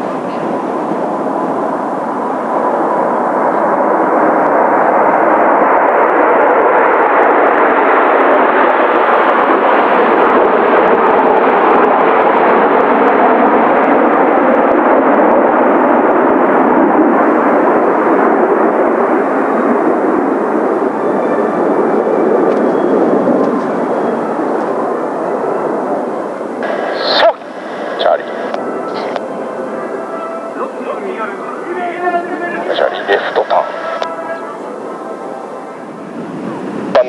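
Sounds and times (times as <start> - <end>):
jet aircraft flying over: 0.0 - 37.0.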